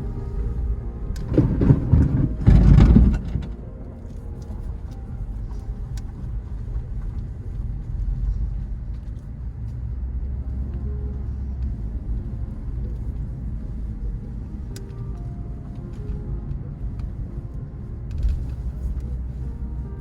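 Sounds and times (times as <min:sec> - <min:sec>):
vehicle low rumble: 0:00.0 - 0:20.0.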